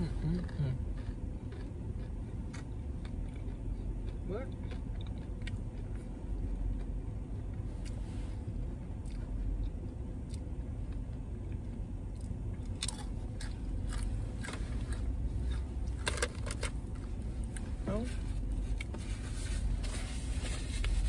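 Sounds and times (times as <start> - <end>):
chewing crispy food: 0.0 - 19.3
car interior hum: 0.0 - 21.0.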